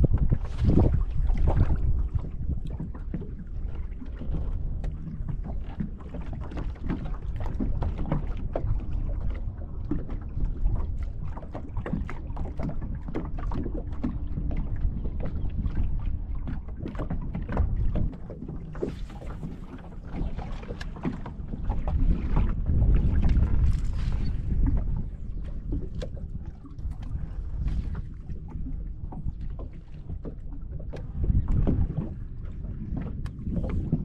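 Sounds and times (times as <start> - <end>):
waves lapping against boat hull: 0.0 - 34.0
wind rumble on microphone: 0.0 - 34.0.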